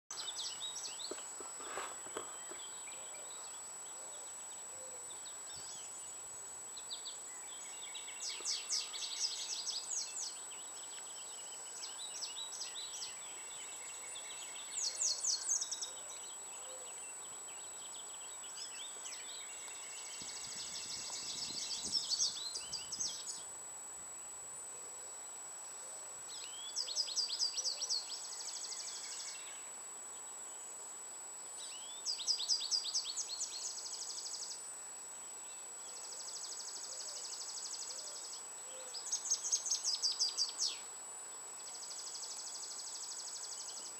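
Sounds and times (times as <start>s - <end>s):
songbird singing: 0.1s - 23.6s, 26.2s - 30.7s, 31.5s - 34.6s, 35.4s - 43.9s.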